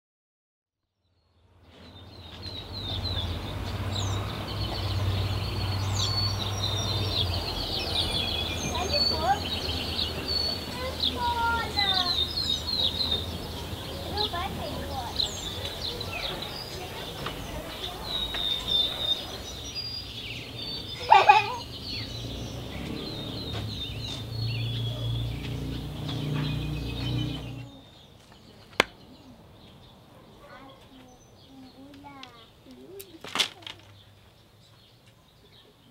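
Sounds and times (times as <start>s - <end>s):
birds chirping: 1.6s - 35.9s.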